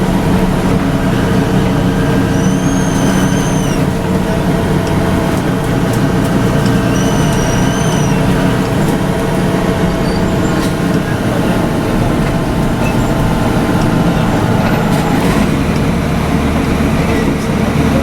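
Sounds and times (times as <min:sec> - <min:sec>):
bus diesel engine drone: 0:00.0 - 0:18.0
deep hum: 0:00.0 - 0:18.0.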